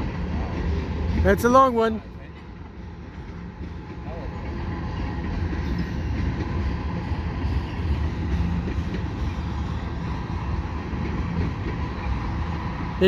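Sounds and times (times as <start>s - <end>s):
freight train wheels rumbling on rail: 0.0s - 13.0s.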